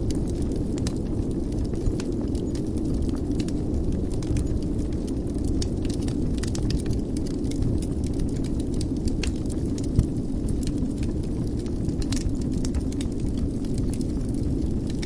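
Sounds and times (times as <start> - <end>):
fire burning: 0.0 - 15.0
fire crackles and pops: 0.0 - 15.0.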